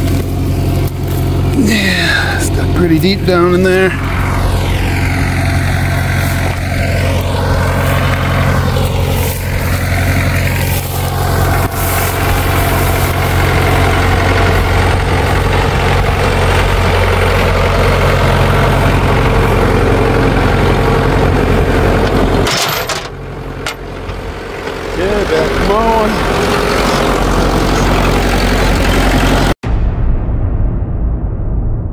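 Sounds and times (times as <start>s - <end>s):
diesel tractor engine idling: 0.0s - 29.6s.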